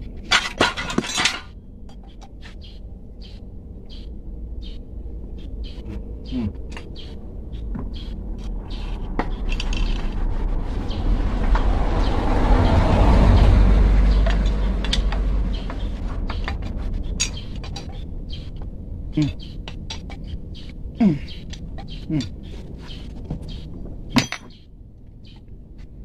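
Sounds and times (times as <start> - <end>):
rushing noise with low rumble: 0.0 - 26.0.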